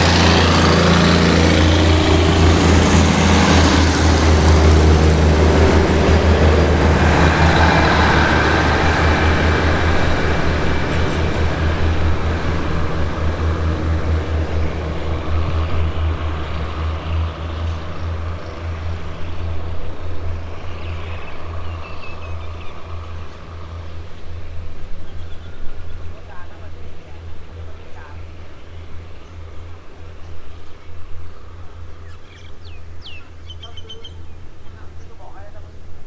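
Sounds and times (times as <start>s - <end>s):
diesel train pulling away: 0.0s - 36.0s.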